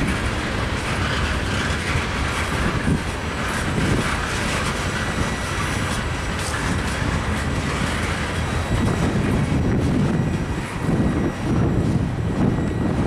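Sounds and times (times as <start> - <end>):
clacks over track joints: 0.0 - 10.5
train wheels rumbling on rails: 0.0 - 13.0.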